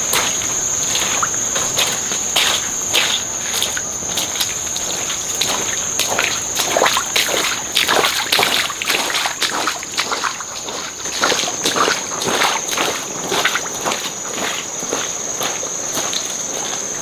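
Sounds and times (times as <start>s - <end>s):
water sloshing and splashing: 0.0s - 15.1s
high-pitched insect trill: 0.0s - 17.0s.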